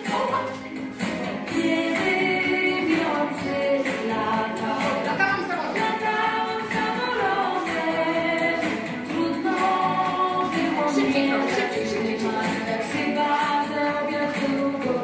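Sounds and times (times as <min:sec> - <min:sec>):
women singing together: 0:01.3 - 0:15.0.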